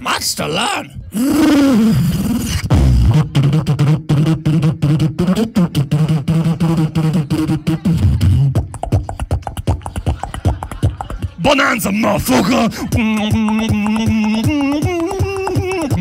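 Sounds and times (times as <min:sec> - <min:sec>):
beatboxing mouth-drum hits: 0:01.1 - 0:16.0.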